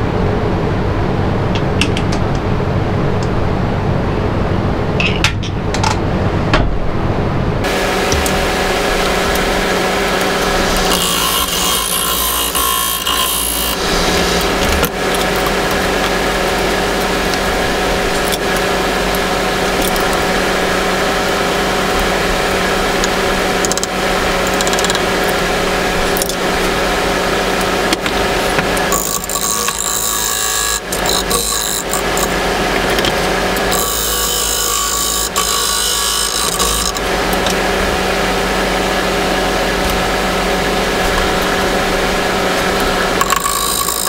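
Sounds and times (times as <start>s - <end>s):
lathe motor hum: 7.6s - 44.0s
tool scraping spinning wood: 7.6s - 44.0s.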